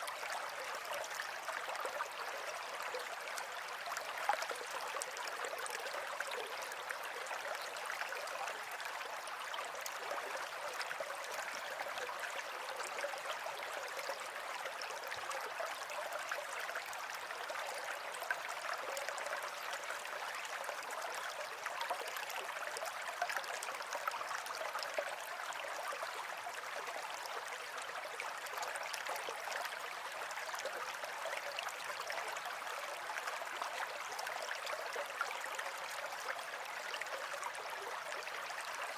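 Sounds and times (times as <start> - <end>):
stream of water flowing: 0.0 - 38.9.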